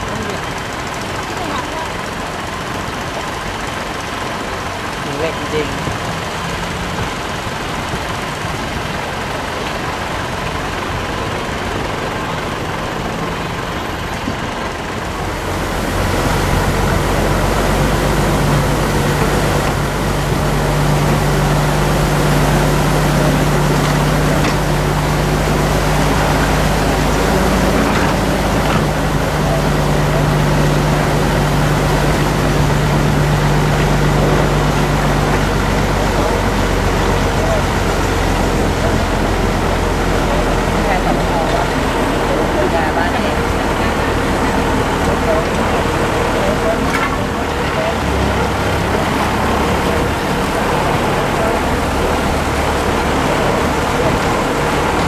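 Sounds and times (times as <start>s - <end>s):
engine humming steadily: 0.0s - 55.0s
steady rushing noise: 0.0s - 55.0s.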